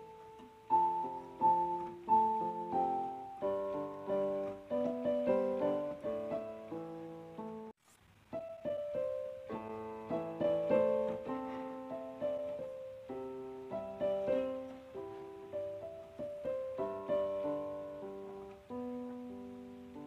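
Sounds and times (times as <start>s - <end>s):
slow solo piano melody: 0.0s - 20.0s.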